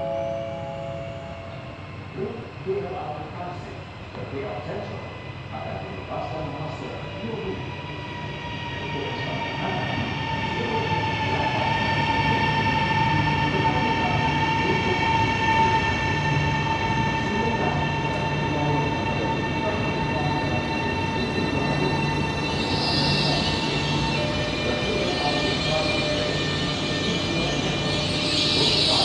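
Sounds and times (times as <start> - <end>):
electric train rumble and whine: 0.0 - 29.0.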